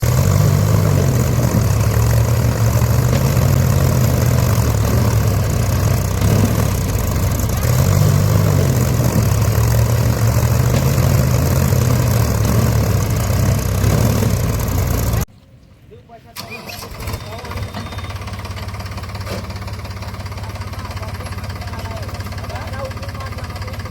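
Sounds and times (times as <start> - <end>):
tractor engine running under load: 0.0 - 15.3, 16.4 - 23.9.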